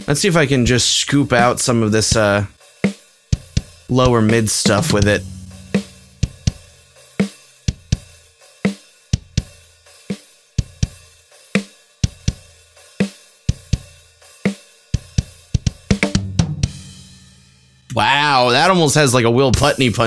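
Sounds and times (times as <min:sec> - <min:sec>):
drum kit playing a beat: 0:00.0 - 0:20.0.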